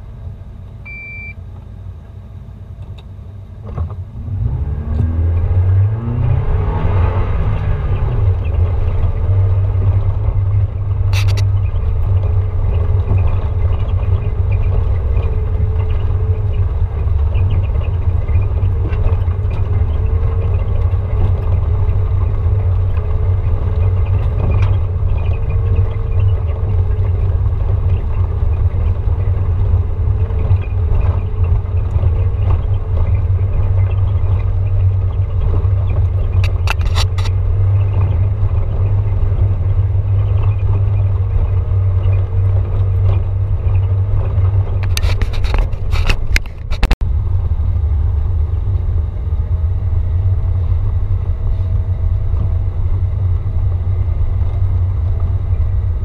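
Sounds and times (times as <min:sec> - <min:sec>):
vehicle engine and tyres on gravel: 0:00.0 - 0:56.0.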